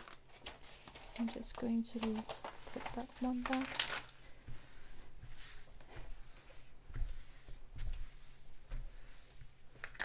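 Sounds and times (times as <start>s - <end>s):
hands rubbing plastic film: 0.0s - 10.0s.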